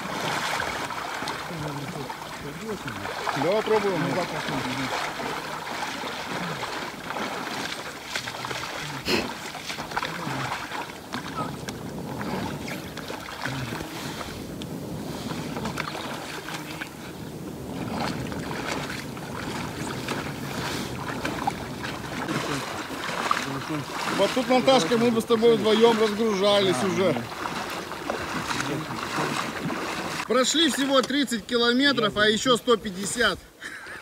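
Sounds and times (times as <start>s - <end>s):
river water splashing: 0.0s - 34.0s.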